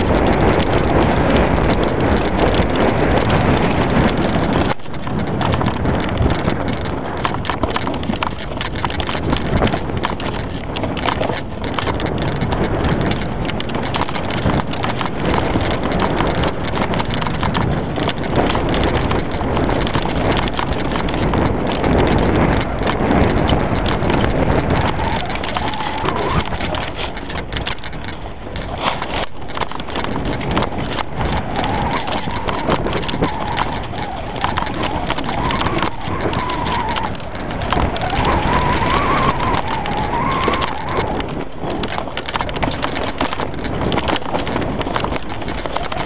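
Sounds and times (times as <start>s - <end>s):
mountain bike rattling over rocks: 0.0s - 46.0s.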